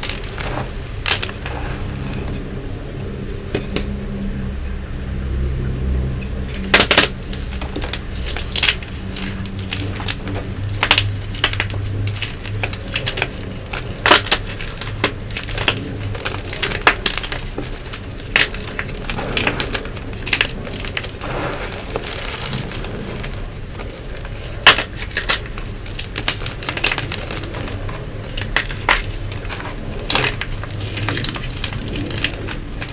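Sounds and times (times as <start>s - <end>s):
chalk pieces snapping: 0.0s - 2.4s, 6.5s - 32.9s
chalk crunching by hand: 0.0s - 2.5s, 6.5s - 32.9s.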